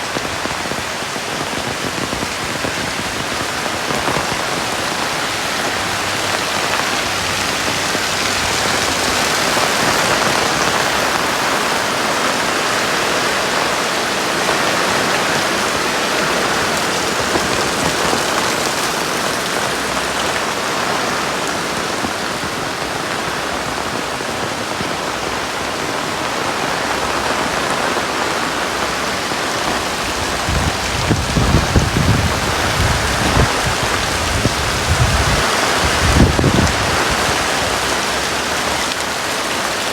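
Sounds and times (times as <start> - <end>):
heavy rain pouring: 0.0 - 39.9
wind buffeting microphone: 0.1 - 38.4.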